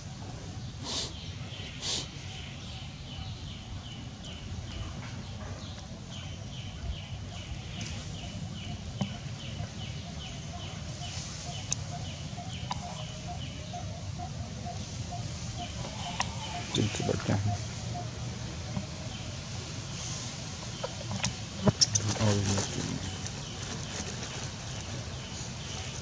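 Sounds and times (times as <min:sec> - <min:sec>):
bird chirping: 0:00.0 - 0:26.0
low outdoor rumble: 0:00.0 - 0:26.0.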